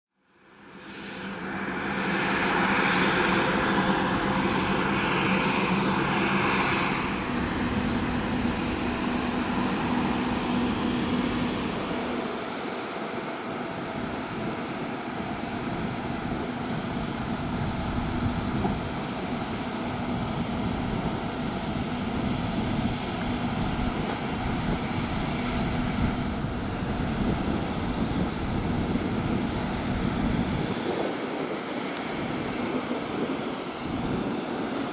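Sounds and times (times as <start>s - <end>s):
jet turbines whining and rumbling: 0.4s - 34.9s.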